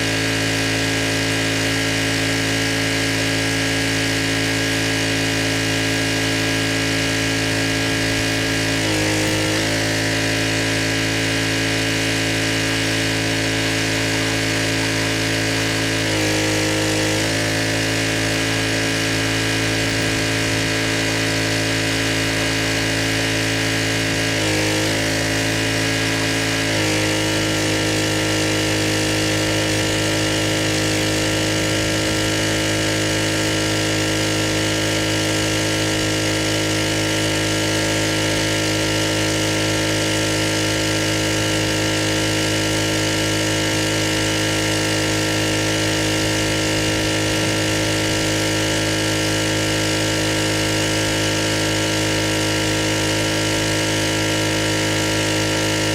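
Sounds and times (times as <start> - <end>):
pressure washer engine running: 0.0 - 55.9.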